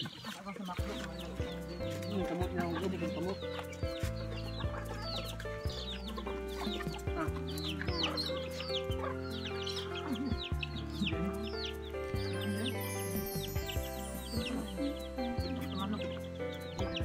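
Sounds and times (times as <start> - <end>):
chickens clucking: 0.0 - 17.0
music with long held notes: 0.8 - 17.0.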